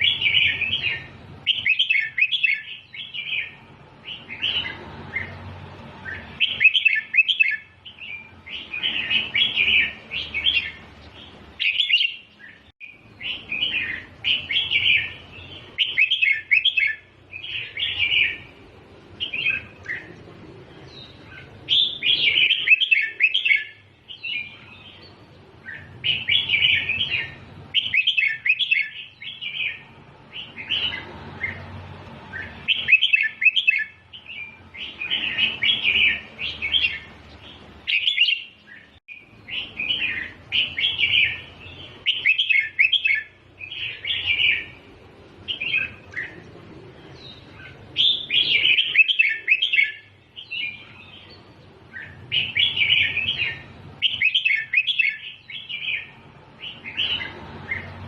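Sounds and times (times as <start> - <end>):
bird warbling song: 0.0 - 58.0.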